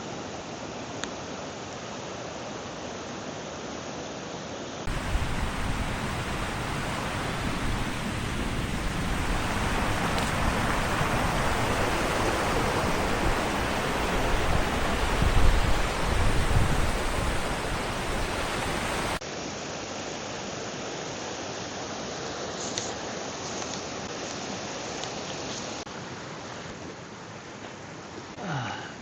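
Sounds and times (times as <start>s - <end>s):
stream water rushing: 4.8s - 28.4s.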